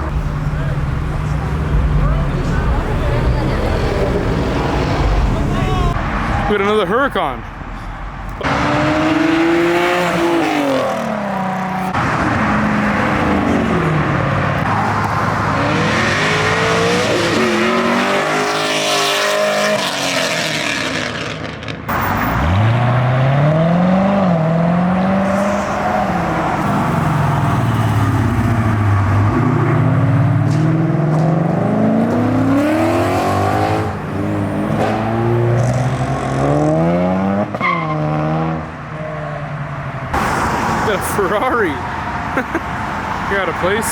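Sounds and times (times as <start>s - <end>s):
sports car engines revving: 0.0s - 6.4s, 8.1s - 43.9s.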